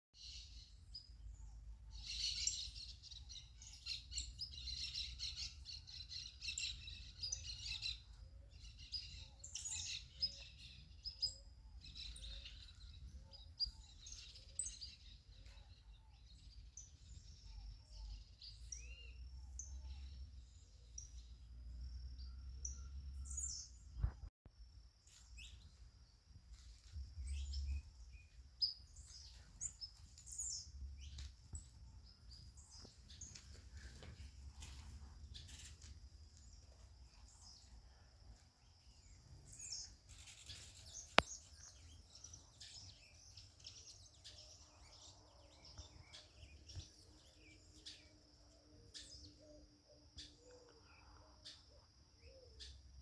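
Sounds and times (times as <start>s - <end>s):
birds chirping and singing: 0.2s - 24.2s, 26.8s - 53.0s.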